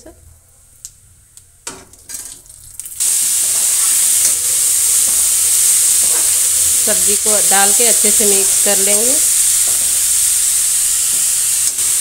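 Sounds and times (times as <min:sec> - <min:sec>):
vegetables sizzling in oil: 0:02.1 - 0:12.0.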